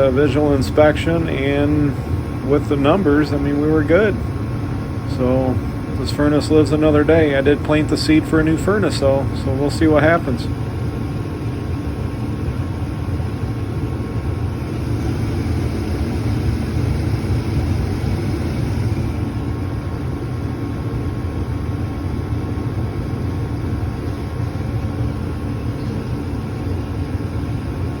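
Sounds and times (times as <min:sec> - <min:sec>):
gas furnace rumbling: 0:00.0 - 0:28.0.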